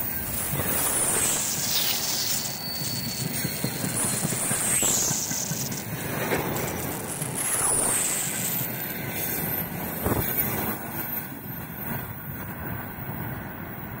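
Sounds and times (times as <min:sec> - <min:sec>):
freight train wheels clattering: 0:00.0 - 0:13.2.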